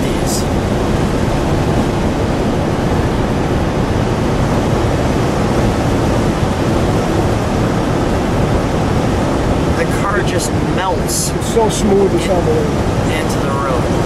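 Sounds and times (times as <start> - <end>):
wind and road noise in car: 0.0 - 14.0.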